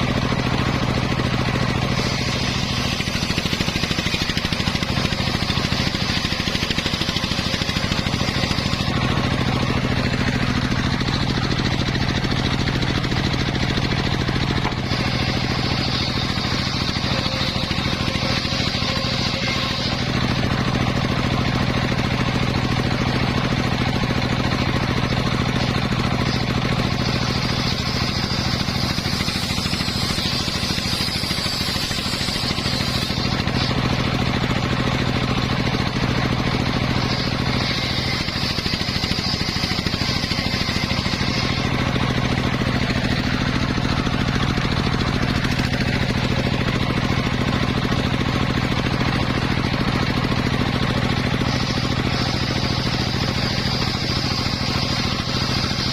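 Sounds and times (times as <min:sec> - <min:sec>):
engine drone: 0:00.0 - 0:55.9
saw blade whine: 0:00.0 - 0:55.9.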